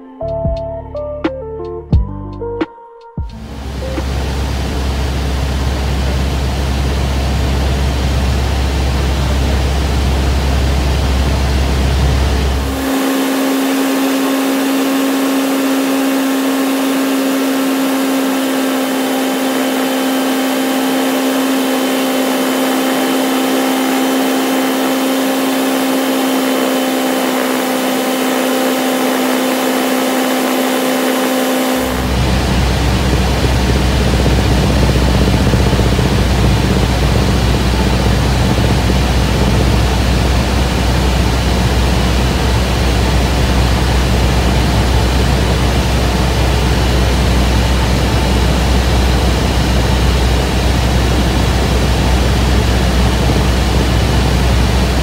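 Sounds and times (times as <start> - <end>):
plane engine droning in cabin: 3.3 - 55.0.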